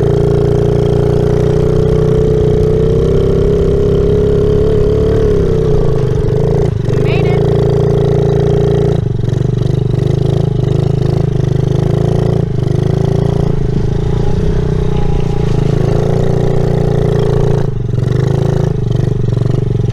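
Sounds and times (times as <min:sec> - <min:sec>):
dirt bike engine running: 0:00.0 - 0:19.9.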